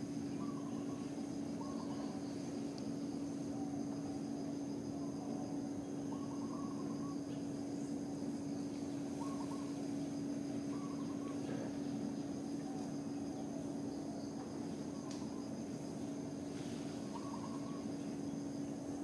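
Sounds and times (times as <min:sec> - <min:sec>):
high insect drone: 0:00.0 - 0:19.0
steady low hum: 0:00.0 - 0:19.0
warbling bird calls: 0:00.1 - 0:02.6, 0:04.9 - 0:14.2, 0:14.8 - 0:19.0.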